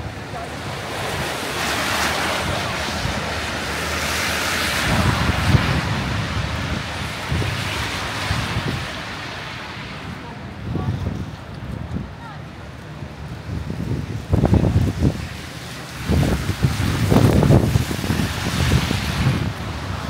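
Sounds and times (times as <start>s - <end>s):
strong wind gusting: 0.0s - 20.0s
wind buffeting microphone: 0.0s - 20.0s.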